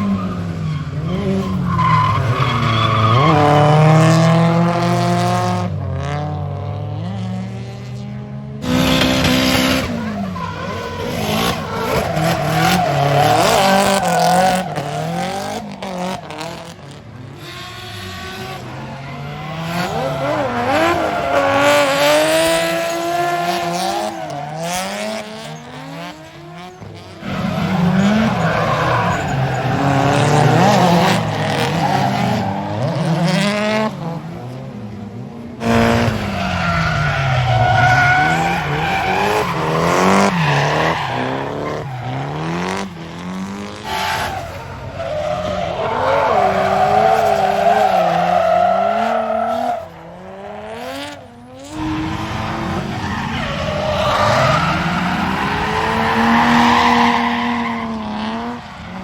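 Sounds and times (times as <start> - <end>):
tires screeching: 0.0 - 5.9, 8.6 - 59.0
car engines revving: 0.0 - 59.0.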